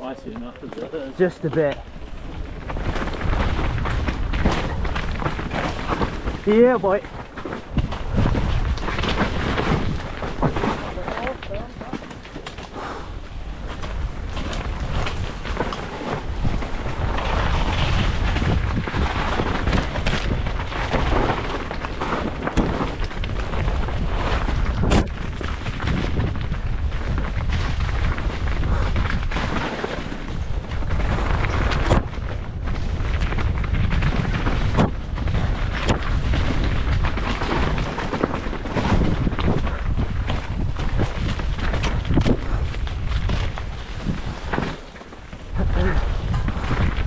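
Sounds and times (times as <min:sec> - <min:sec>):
bike tyres rumbling on dirt: 0:00.0 - 0:47.0
wind buffeting microphone: 0:00.0 - 0:47.0
bike knocking over roots: 0:01.4 - 0:47.0.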